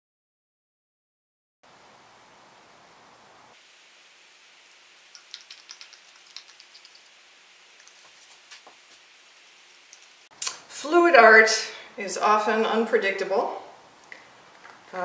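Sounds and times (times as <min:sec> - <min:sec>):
faint steady hiss: 0:01.7 - 0:15.0.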